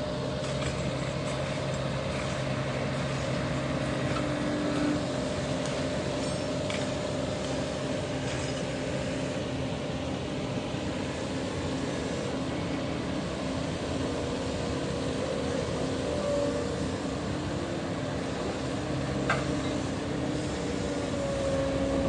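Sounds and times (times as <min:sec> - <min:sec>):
excavator diesel engine humming: 0:00.0 - 0:22.0.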